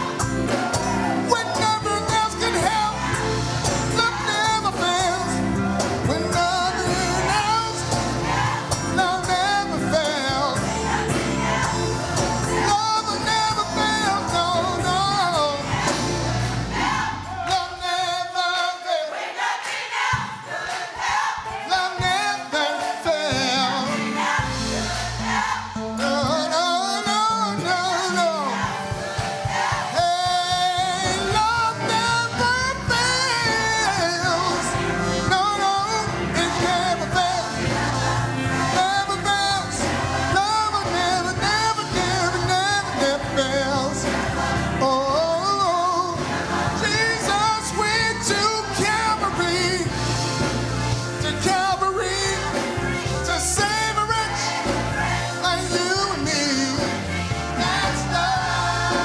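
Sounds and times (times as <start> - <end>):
band playing a steady beat: 0.0 - 59.0
choir singing gospel: 0.0 - 59.0.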